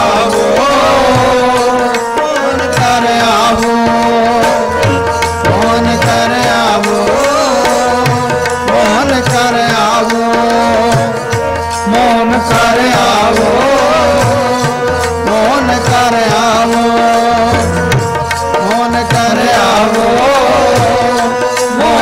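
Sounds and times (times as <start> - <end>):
harmoniums playing melody: 0.0 - 22.0
person singing: 0.0 - 22.0
tabla rhythm: 0.0 - 22.0.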